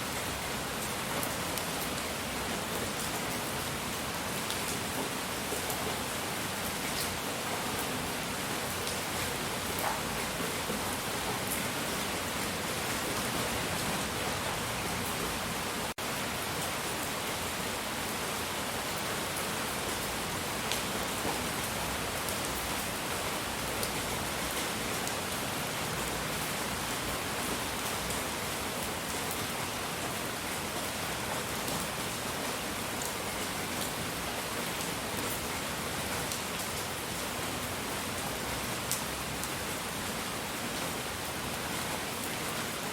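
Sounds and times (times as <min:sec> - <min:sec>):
steady pink noise hiss: 0:00.0 - 0:42.9
light ticks like rain: 0:00.1 - 0:17.6, 0:18.4 - 0:40.2.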